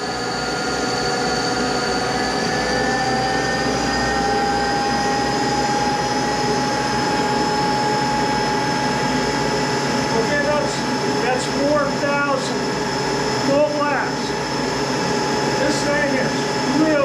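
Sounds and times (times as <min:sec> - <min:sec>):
lathe machine whine: 0:00.0 - 0:17.0.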